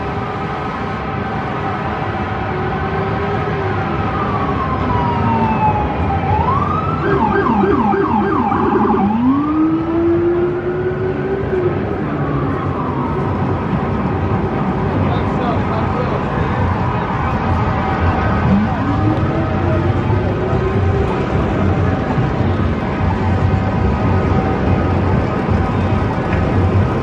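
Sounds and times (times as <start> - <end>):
city traffic noise: 0.0 - 27.0
fire engine siren: 0.0 - 27.0.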